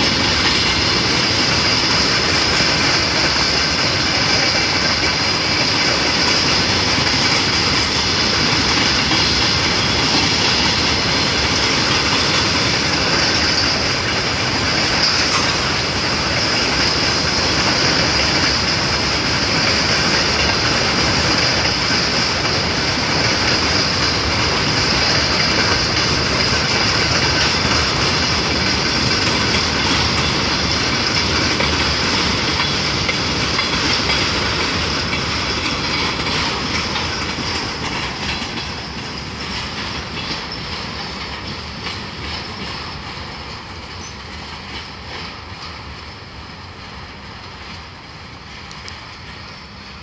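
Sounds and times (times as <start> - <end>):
train wheels rumbling: 0.0 - 50.0
wheels clicking over rail joints: 0.0 - 50.0.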